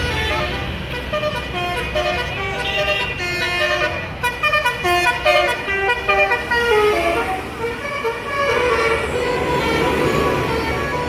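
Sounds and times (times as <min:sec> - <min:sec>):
bus engine rumble: 0:00.0 - 0:11.0
musical air horn melody: 0:00.1 - 0:11.0.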